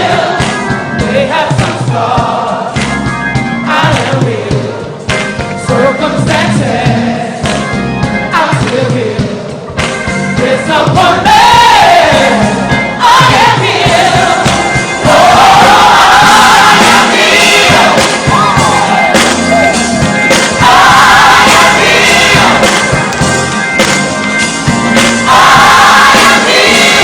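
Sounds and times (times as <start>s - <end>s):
group singing gospel song: 0.0s - 3.0s, 3.6s - 7.6s, 8.3s - 9.7s, 10.3s - 27.0s.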